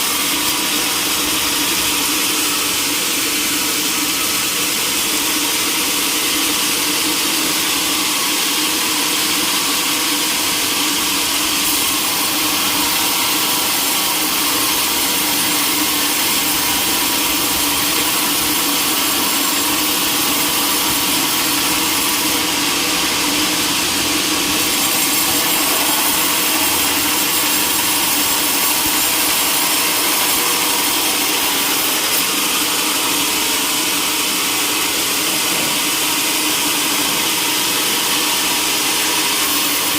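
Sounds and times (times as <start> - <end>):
sawmill saw cutting timber: 0.0 - 39.9.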